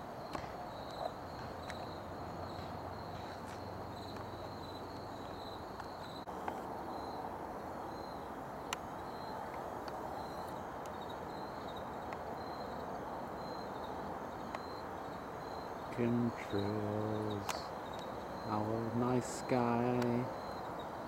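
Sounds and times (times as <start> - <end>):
background hiss: 0.0 - 21.0
crickets chirping: 0.0 - 21.0.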